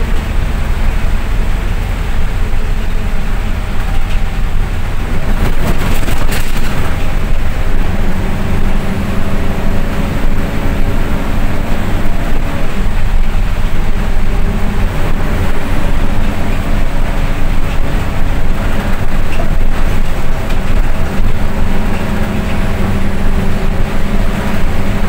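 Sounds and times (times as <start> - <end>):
bus engine running: 0.0 - 25.0
road noise: 0.0 - 25.0.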